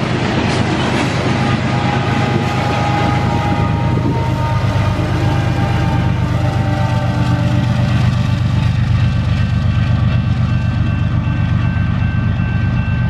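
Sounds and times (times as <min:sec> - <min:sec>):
diesel locomotive engine drumming: 0:00.0 - 0:13.0
train wheels on rails: 0:00.0 - 0:13.0.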